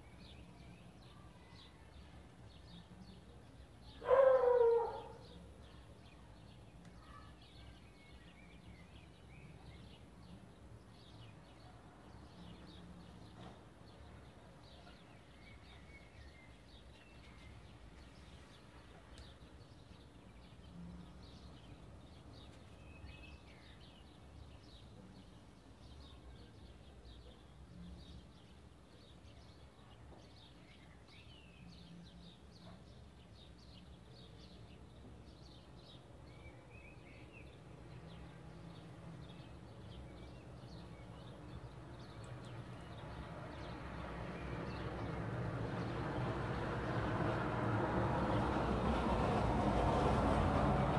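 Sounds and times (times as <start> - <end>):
small birds chirping: 0.0 - 46.4.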